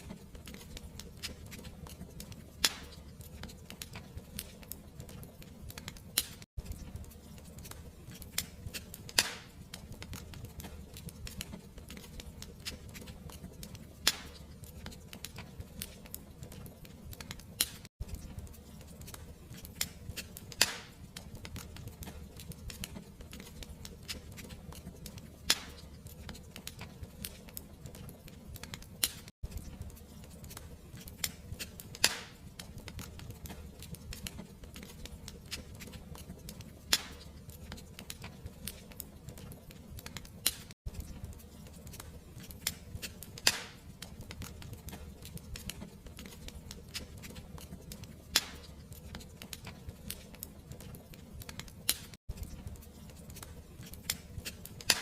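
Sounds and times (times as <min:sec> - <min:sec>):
fire crackling: 0:00.0 - 0:55.0
fire popping: 0:00.0 - 0:55.0.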